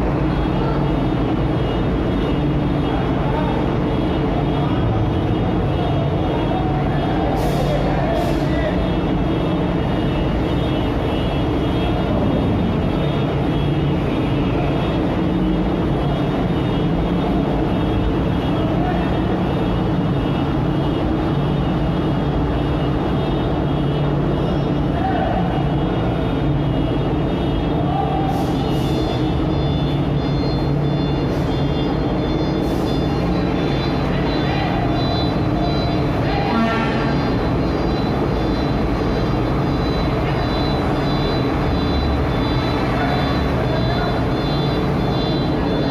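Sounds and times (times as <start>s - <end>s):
heavy truck engines running: 0.0s - 45.9s.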